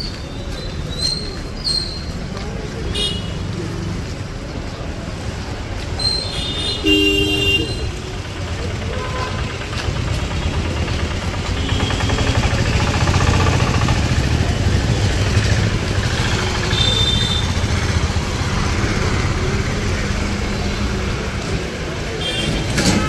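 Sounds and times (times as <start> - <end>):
vehicle engines in street traffic: 0.0 - 23.0.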